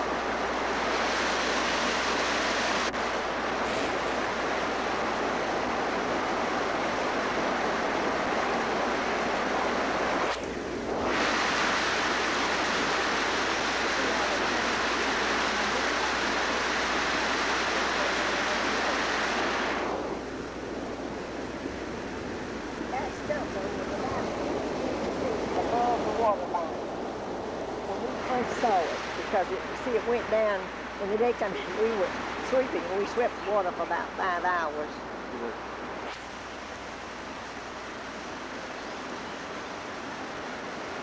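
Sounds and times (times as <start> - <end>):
fast-moving water rushing: 0.0 - 41.0.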